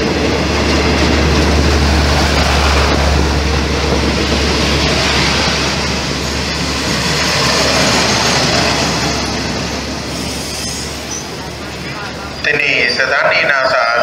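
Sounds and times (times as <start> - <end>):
train wheels rushing on rail: 0.0 - 14.0.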